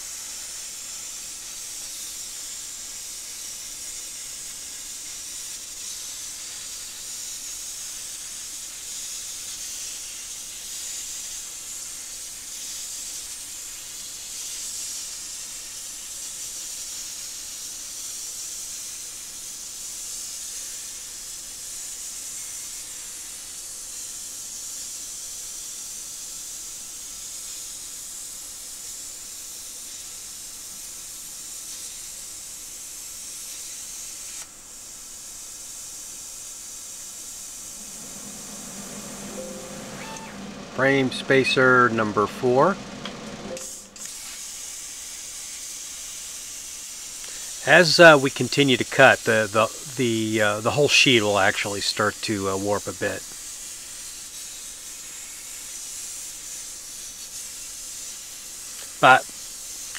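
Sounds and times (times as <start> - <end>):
plasma torch cutting hiss: 0.0 - 59.9.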